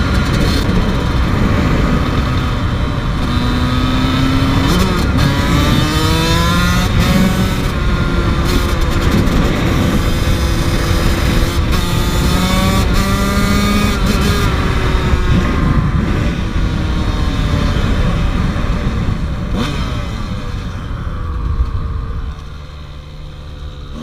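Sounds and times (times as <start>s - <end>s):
dirt bike engine accelerating: 0.0s - 24.0s.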